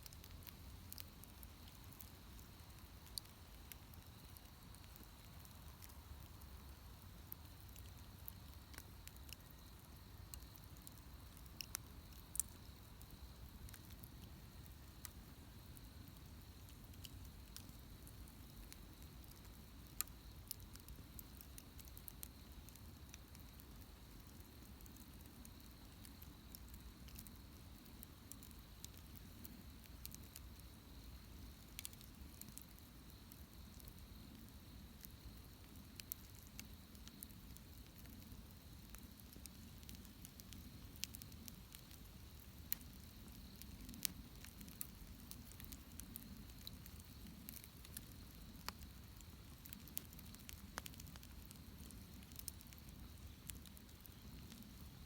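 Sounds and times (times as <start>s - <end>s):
bonfire crackling: 0.0s - 55.0s
low hiss of flames: 0.0s - 55.0s.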